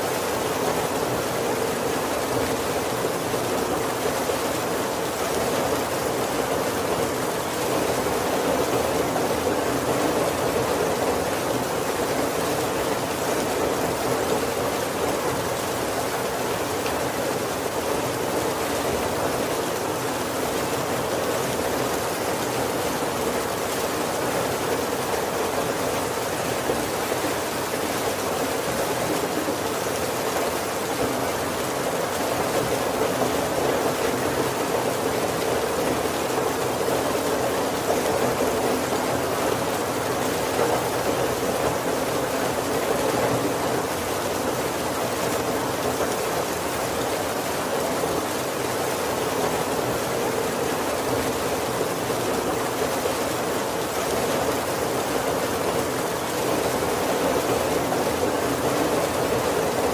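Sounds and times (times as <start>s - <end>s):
heavy rain on a wooden roof: 0.0s - 59.9s.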